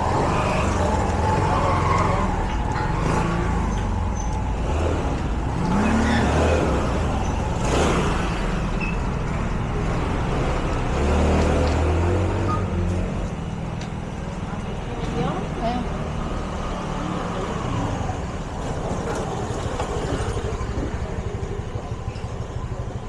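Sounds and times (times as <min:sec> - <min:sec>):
low rumble of traffic: 0:00.0 - 0:23.0
vehicles passing: 0:00.0 - 0:23.0.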